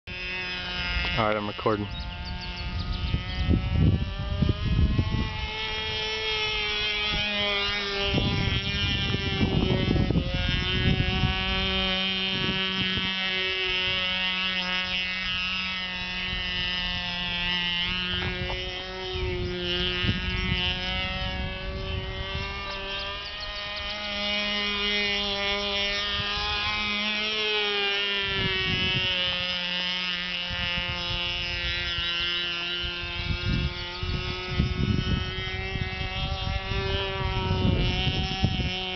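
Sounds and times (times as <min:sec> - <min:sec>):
model airplane engine buzzing: 0:00.0 - 0:38.9.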